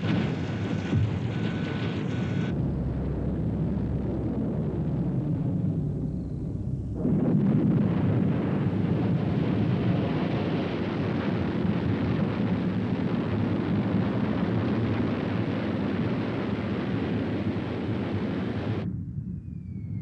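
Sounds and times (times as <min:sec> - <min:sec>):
rocket engine rumbling: 0:00.0 - 0:20.0.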